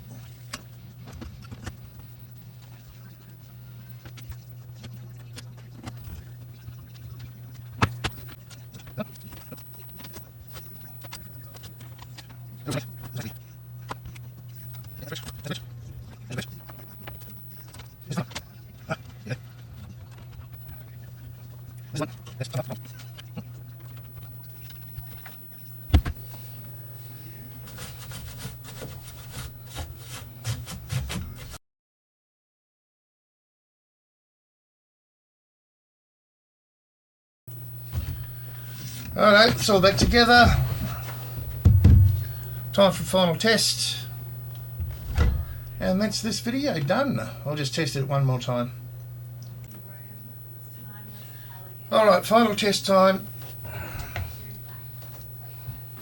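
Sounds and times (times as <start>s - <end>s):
steady low hum: 0.0s - 31.6s, 37.5s - 56.0s.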